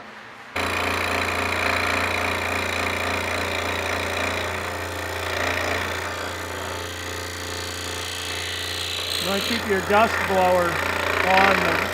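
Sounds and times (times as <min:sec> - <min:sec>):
scroll saw cutting wood: 0:00.6 - 0:11.9.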